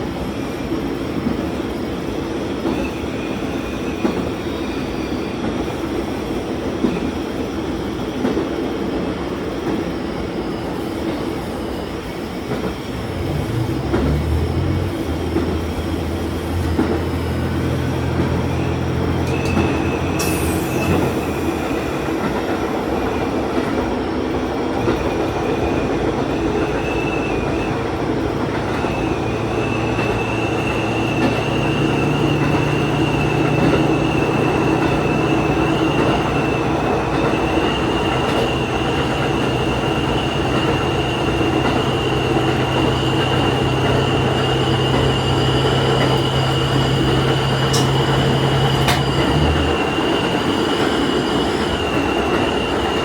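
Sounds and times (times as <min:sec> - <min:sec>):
rail running noise: 0:00.0 - 0:53.0
diesel railcar engine drone: 0:09.0 - 0:53.0.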